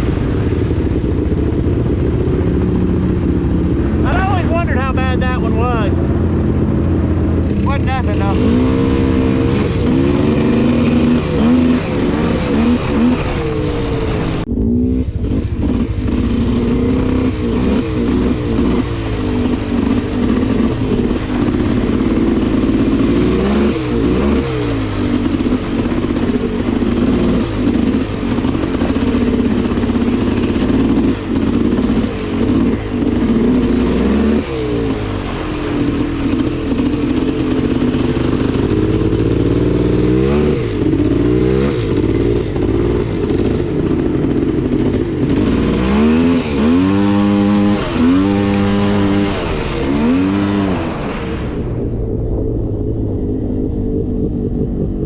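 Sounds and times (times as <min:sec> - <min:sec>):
two-stroke atv engine revving: 0:00.0 - 0:51.9.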